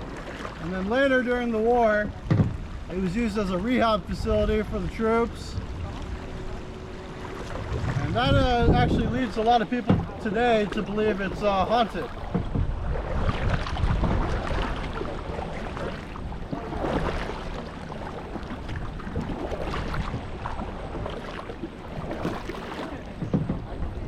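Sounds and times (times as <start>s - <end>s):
kayak paddles splashing: 0.0s - 24.0s
wind buffeting microphone: 1.5s - 24.0s.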